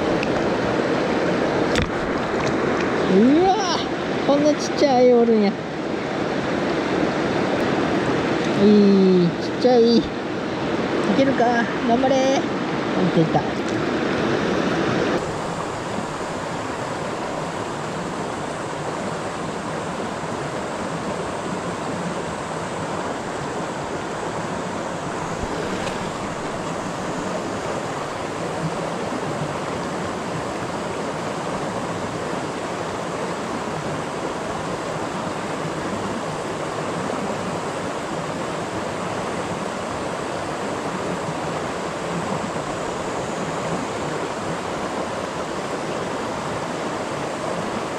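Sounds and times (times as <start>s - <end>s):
river rushing over stones: 0.0s - 47.9s.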